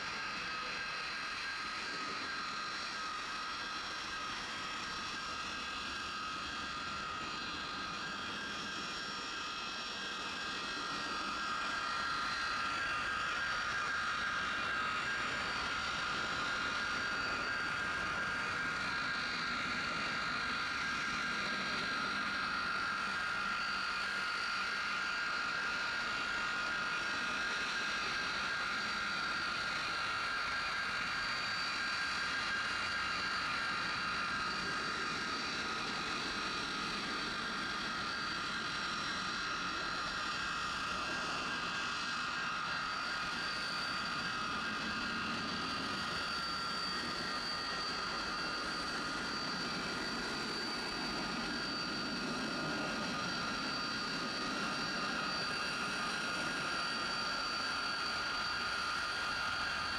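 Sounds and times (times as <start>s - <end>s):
jet engine snowblower turbine whine: 0.0s - 59.9s.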